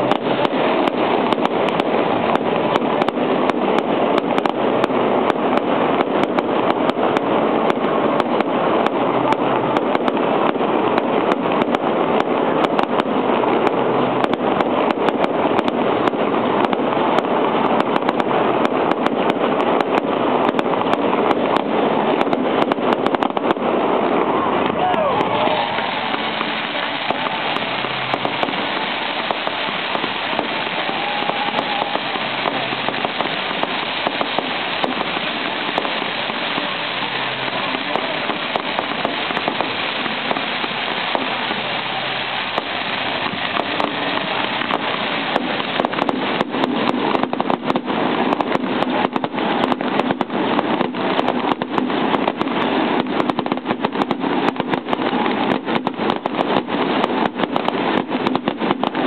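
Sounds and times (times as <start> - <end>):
fireworks hissing and popping: 0.0 - 59.0
fireworks sharp cracks: 0.0 - 59.0.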